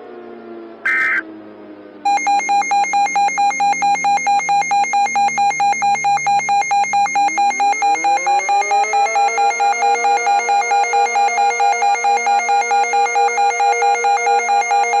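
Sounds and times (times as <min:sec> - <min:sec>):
buzzy electronic alert beeps: 0:00.9 - 0:01.2, 0:02.1 - 0:15.0
sliding electronic tones: 0:00.9 - 0:01.2, 0:02.1 - 0:15.0.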